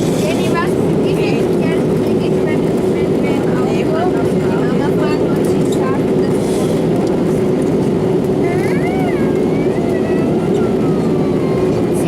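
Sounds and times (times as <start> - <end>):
airliner cabin engine noise: 0.0 - 12.0
faint voices: 0.2 - 12.0.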